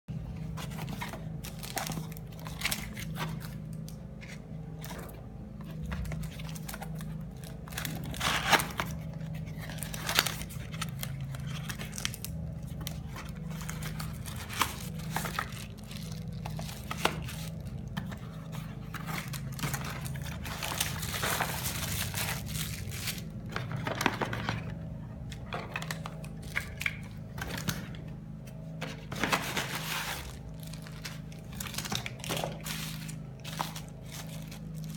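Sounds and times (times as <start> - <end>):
plastic and cardboard crinkling: 0.2 - 34.9.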